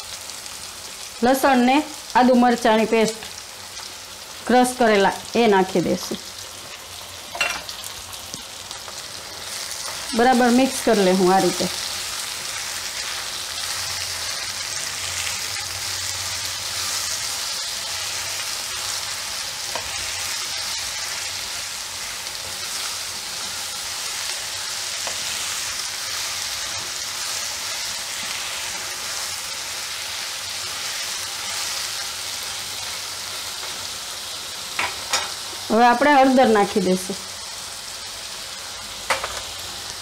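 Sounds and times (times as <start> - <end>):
vegetables sizzling in hot oil: 0.0 - 40.0.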